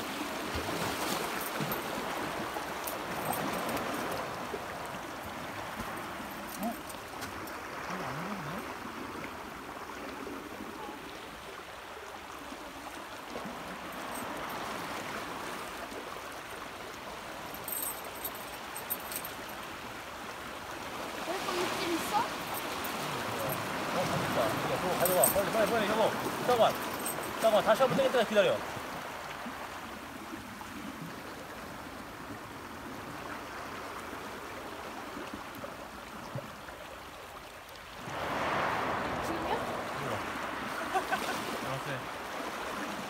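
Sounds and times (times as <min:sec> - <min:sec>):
small waves washing on rocks: 0:00.0 - 0:11.5, 0:12.2 - 0:36.5, 0:38.0 - 0:43.0.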